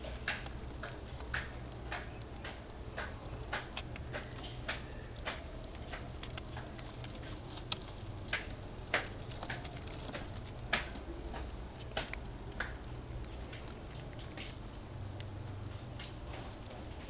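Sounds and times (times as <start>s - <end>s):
rodents scratching and rustling paper: 0.0s - 17.0s
steady low hum: 0.0s - 17.0s
sharp ticks: 0.2s - 15.3s.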